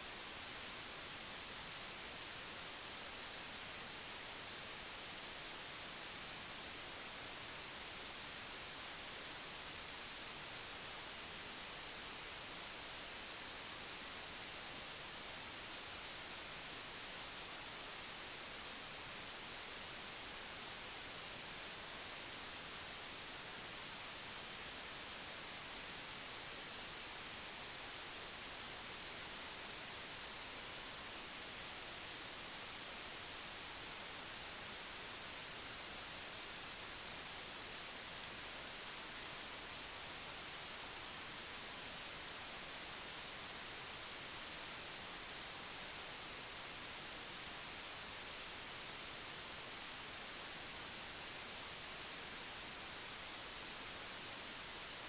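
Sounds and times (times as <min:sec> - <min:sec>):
steady static hiss: 0:00.0 - 0:55.0.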